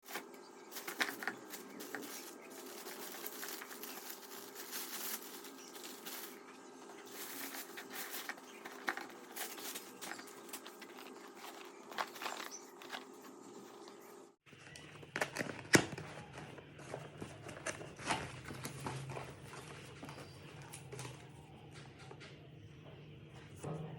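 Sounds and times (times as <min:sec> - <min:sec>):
crinkles: 0:00.0 - 0:21.4.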